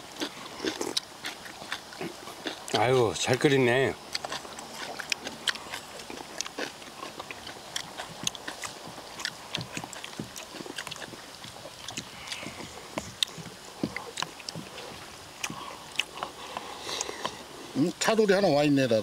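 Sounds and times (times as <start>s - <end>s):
people chewing and slurping: 0.0s - 18.6s.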